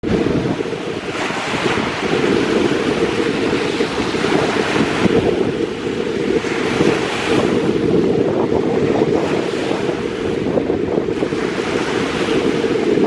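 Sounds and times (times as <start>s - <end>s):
waves breaking on shore: 0.0s - 13.0s
wind rumbling on microphone: 0.0s - 13.0s.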